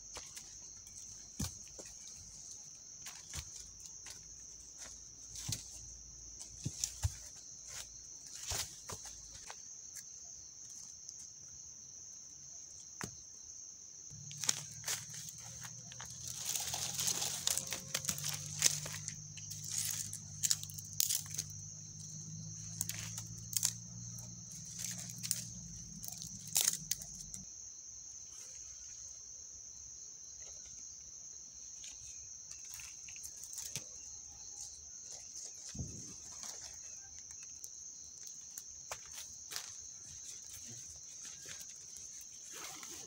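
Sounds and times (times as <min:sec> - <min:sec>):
twigs and leaves crunching: 0:00.0 - 0:11.3, 0:14.1 - 0:27.4, 0:31.6 - 0:43.0
night insects chirring: 0:00.0 - 0:43.0.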